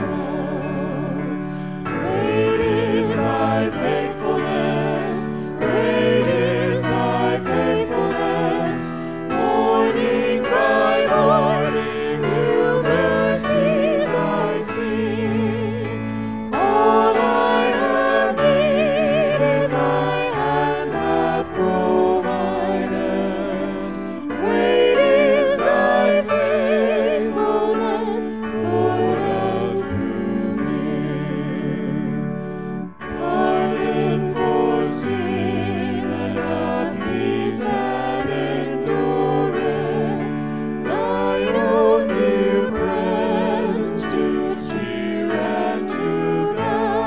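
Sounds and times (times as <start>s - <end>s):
choir singing a hymn: 0.0s - 47.0s
held accompaniment chords: 0.0s - 47.0s.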